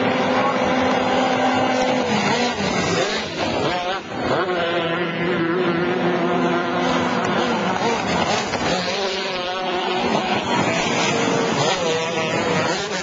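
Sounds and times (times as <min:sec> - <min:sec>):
racing boat engines at high revs: 0:00.0 - 0:13.0.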